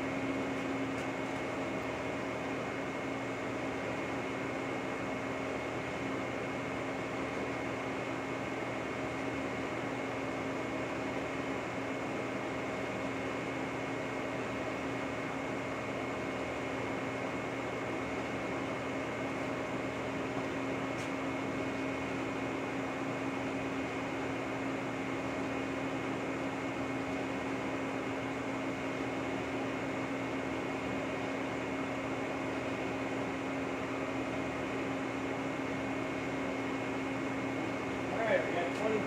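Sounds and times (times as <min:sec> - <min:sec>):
boring mill mechanical hum: 0:00.0 - 0:39.0.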